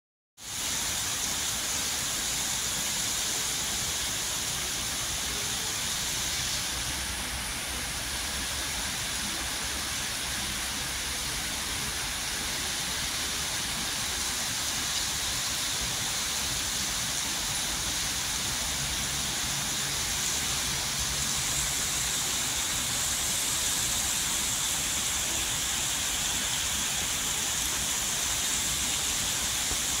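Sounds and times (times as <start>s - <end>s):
heavy rain: 0.4s - 30.0s.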